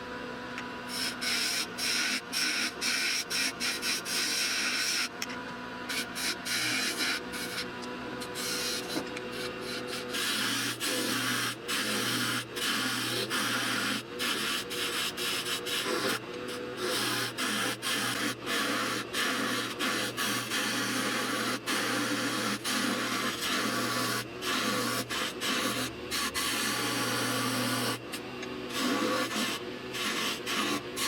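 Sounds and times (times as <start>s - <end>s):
lathe motor hum: 0.1s - 31.0s
turning tool scraping wood: 0.9s - 5.1s, 5.9s - 31.0s.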